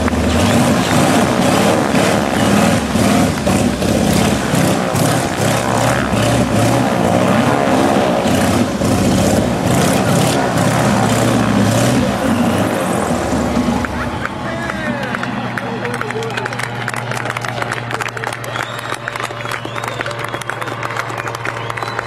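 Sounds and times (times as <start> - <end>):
plane engine and propeller: 0.0 - 22.0.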